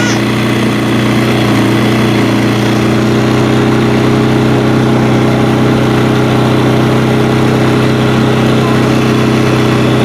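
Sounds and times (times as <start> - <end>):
light aircraft engine running: 0.0 - 10.0.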